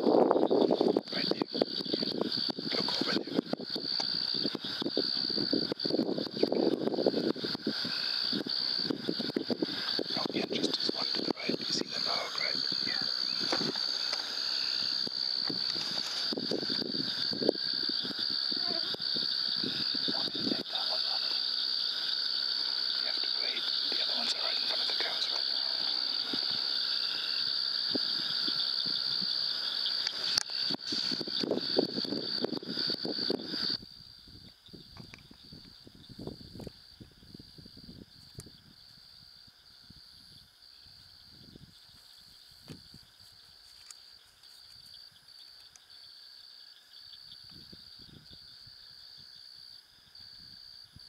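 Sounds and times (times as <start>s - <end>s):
night insects trilling: 0.0s - 51.0s.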